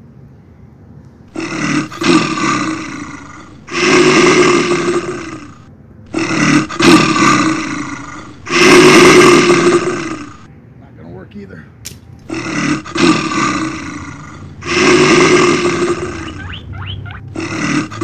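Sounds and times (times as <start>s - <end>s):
dinosaur roaring: 1.3s - 10.5s, 12.2s - 18.0s.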